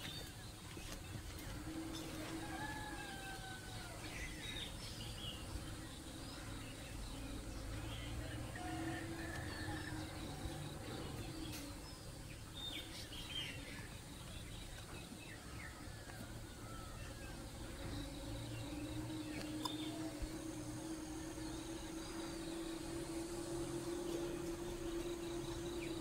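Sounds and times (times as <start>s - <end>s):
bird chirps: 0.0s - 26.0s
insect buzz: 0.0s - 26.0s.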